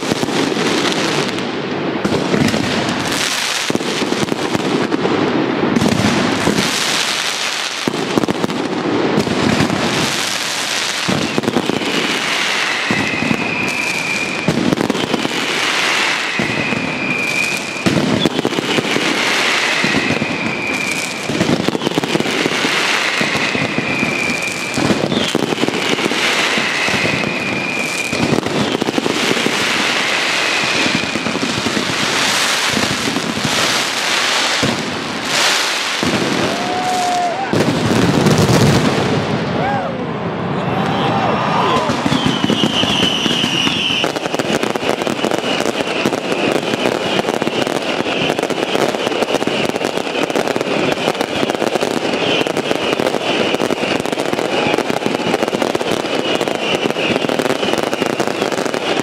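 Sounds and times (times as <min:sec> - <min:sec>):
falling firework whistle: 0:00.0 - 0:59.0
fireworks crackling and banging: 0:00.0 - 0:59.0.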